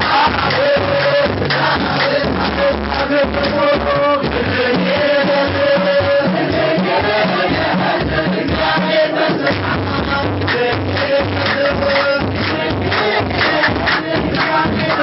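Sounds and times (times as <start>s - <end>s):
large hand drums beating: 0.0s - 15.0s
voices chanting in unison: 0.0s - 15.0s.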